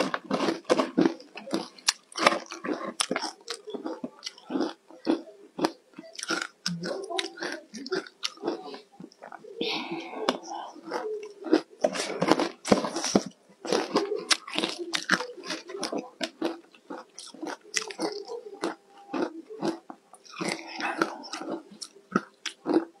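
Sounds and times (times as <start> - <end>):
ice being chewed: 0.0 - 23.0.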